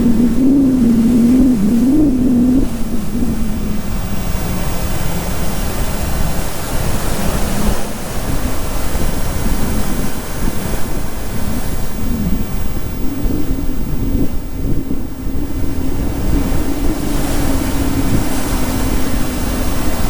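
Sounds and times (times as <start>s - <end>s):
low wavering drone: 0.0s - 20.0s
wind buffeting microphone: 0.0s - 20.0s.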